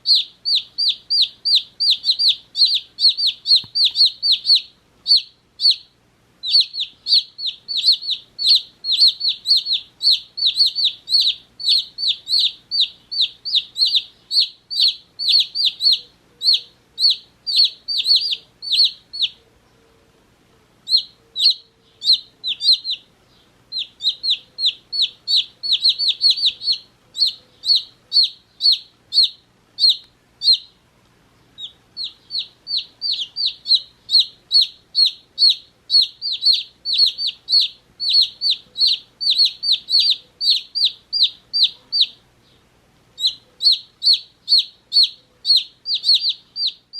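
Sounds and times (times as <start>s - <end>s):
chicks peeping: 0.0s - 19.8s, 20.8s - 30.8s, 31.4s - 46.9s.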